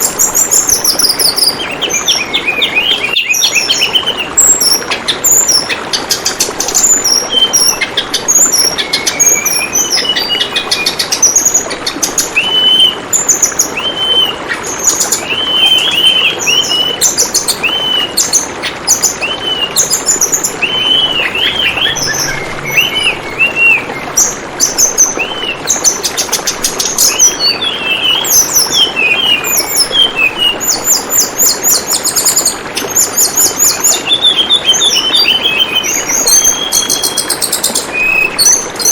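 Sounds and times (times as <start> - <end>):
bird chirping and trilling: 0.0 - 38.9
flowing water: 0.0 - 38.9.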